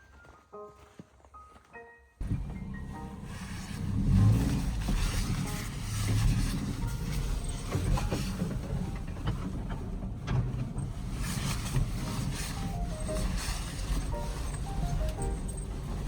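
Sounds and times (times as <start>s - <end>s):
moving vehicle rumble: 2.2s - 16.0s.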